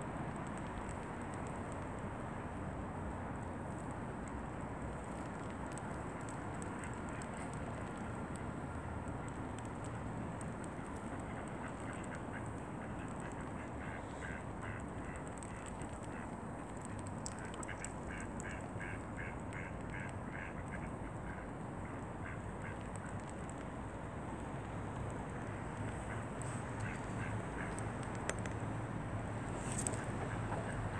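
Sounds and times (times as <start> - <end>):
low hum and hiss: 0.0 - 30.9.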